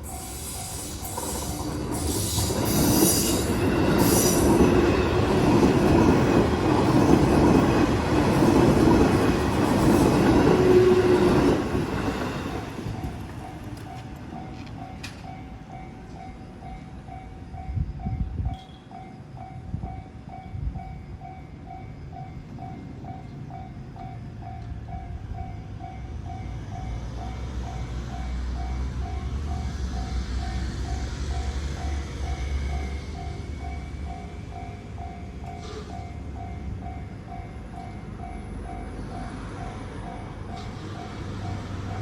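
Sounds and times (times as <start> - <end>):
level-crossing warning bell: 0.0 - 42.0
train rumble and rail noise: 0.0 - 42.0.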